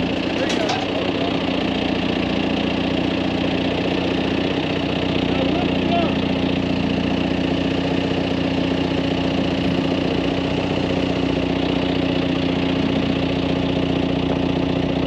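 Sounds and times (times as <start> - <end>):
tractor engine running steadily: 0.0 - 15.0.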